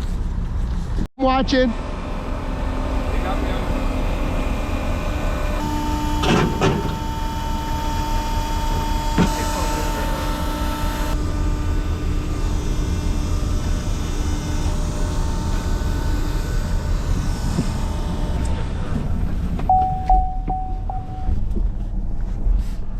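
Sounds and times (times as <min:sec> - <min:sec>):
engine running: 0:00.7 - 0:22.9.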